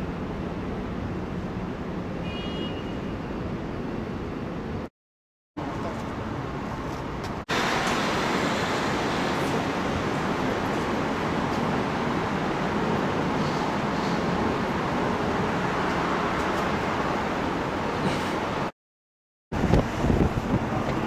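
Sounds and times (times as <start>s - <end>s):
road traffic noise: 0.0s - 4.9s, 5.6s - 18.8s, 19.5s - 21.0s.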